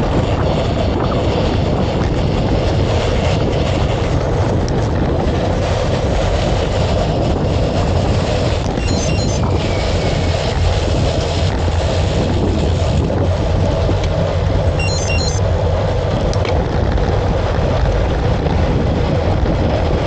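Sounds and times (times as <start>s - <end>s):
rolling road noise: 0.0s - 20.0s
wind rushing: 0.0s - 20.0s.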